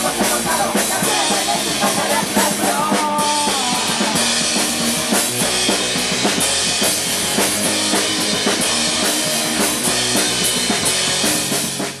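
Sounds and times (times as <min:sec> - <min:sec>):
distorted instruments: 0:00.0 - 0:12.0
drum kit driving beat: 0:00.0 - 0:12.0
punk rock band playing: 0:00.0 - 0:12.0.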